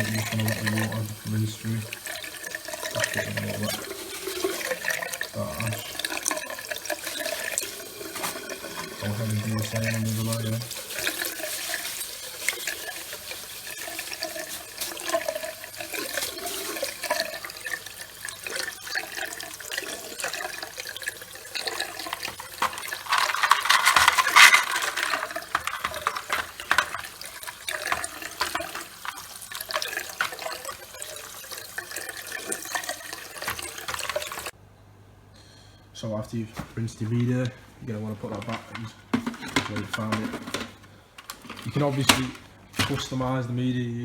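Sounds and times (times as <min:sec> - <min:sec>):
tap water splashing through filter: 0:00.0 - 0:34.6, 0:38.3 - 0:43.3.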